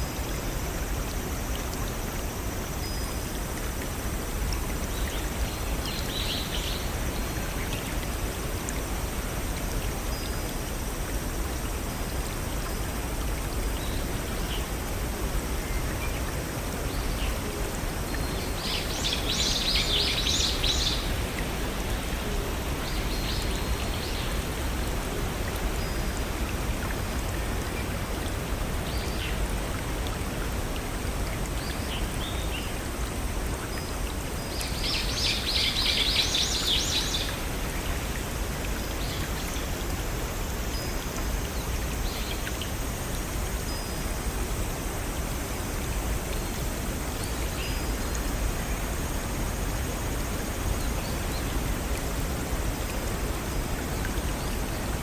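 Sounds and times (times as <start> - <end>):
stream and waterfall rushing: 0.0 - 55.0.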